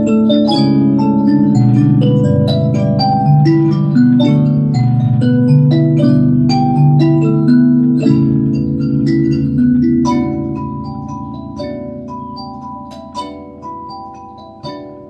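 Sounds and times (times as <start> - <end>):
mbira plucked notes: 0.0 - 15.0.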